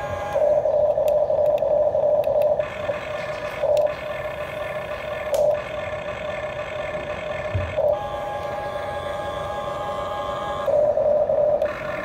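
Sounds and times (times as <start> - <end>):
toy excavator motors whining: 0.0 - 12.0.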